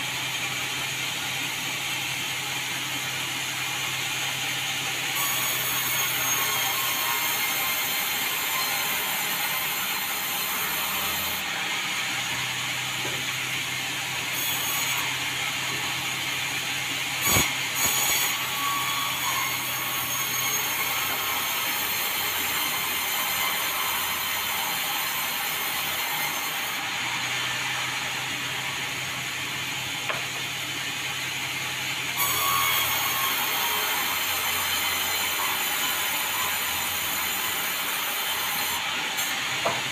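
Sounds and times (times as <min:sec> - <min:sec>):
sawmill sawing timber: 0:00.0 - 0:39.9.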